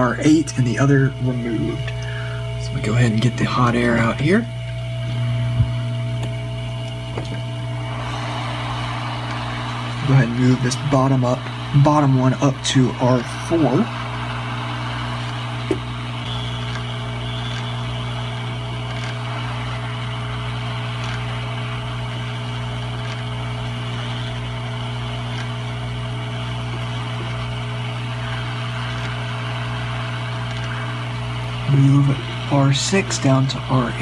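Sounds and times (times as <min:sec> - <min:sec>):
hot air station blowing: 0:00.0 - 0:34.0.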